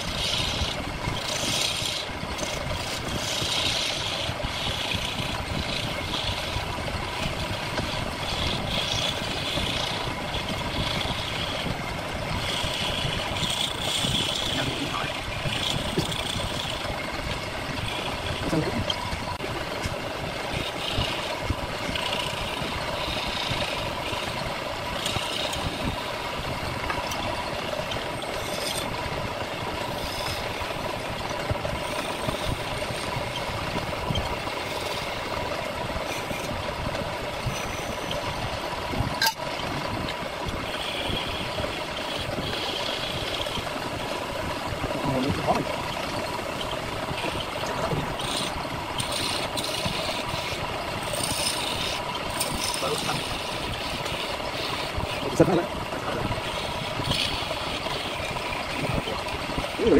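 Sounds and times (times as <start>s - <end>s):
chisel cutting spinning wood: 0.0s - 59.9s
wood lathe humming: 0.0s - 59.9s.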